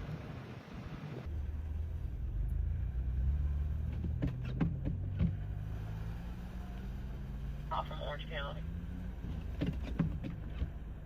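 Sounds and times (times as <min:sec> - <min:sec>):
car engine humming: 0:01.2 - 0:11.0.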